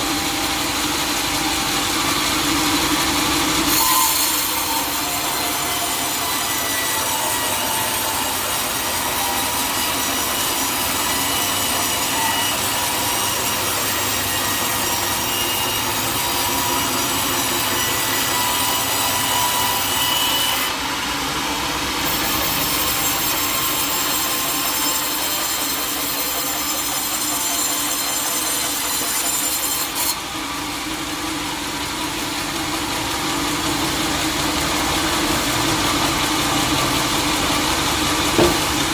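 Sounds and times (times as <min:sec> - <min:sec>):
high saw whine: 0:00.0 - 0:38.9
sawmill saw cutting wood: 0:00.0 - 0:38.9.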